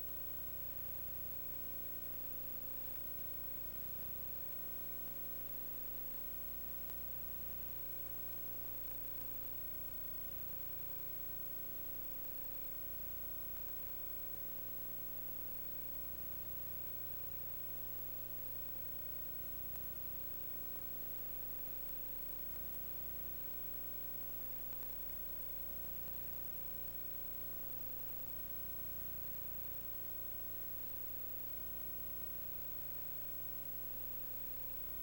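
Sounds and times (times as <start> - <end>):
steady hum and hiss: 0.0 - 35.0.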